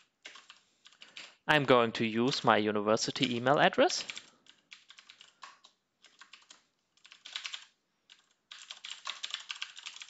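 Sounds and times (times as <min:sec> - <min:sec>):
computer keyboard typing: 0:00.0 - 0:01.4, 0:03.2 - 0:10.0.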